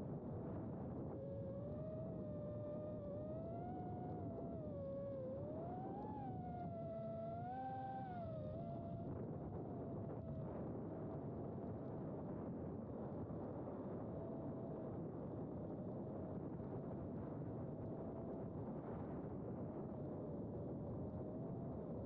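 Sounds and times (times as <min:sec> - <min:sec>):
wind noise: 0:00.0 - 0:22.0.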